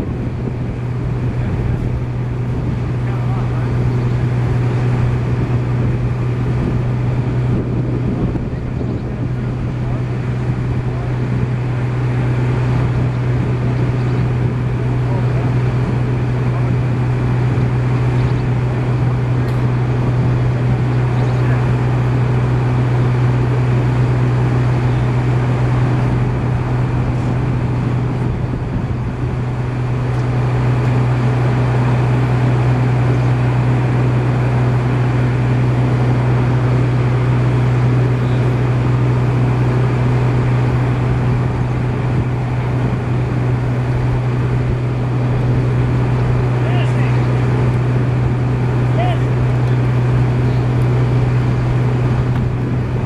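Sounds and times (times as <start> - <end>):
engine running steadily: 0.0 - 53.0.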